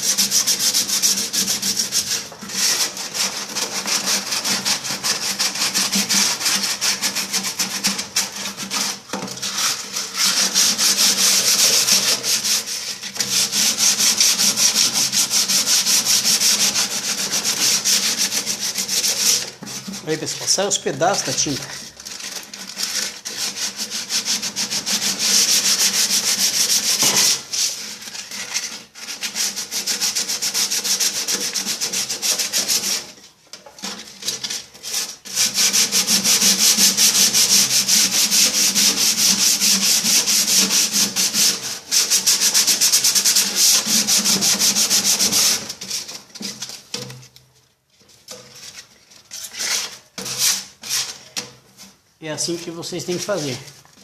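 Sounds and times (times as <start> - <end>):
sandpaper scratching metal: 0.0 - 33.2, 33.8 - 47.1, 48.3 - 51.2, 51.8 - 53.8.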